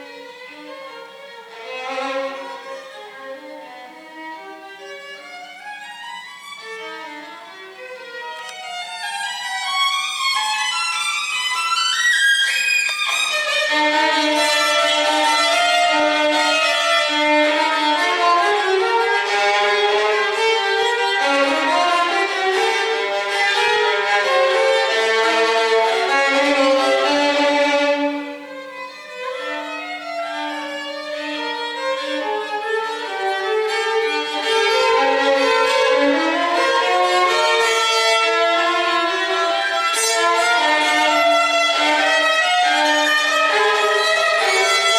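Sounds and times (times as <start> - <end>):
violin music with quick runs: 0.8 - 44.9.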